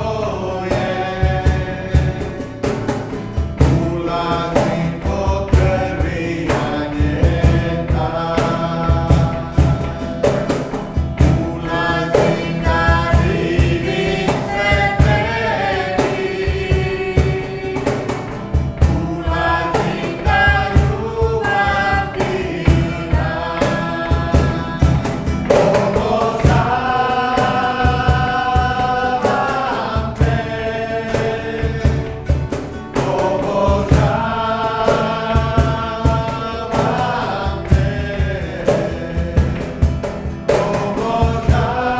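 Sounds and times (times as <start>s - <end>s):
man and woman singing worship song: 0.0s - 41.9s
second man singing: 0.0s - 41.9s
strummed acoustic guitar: 0.0s - 41.9s.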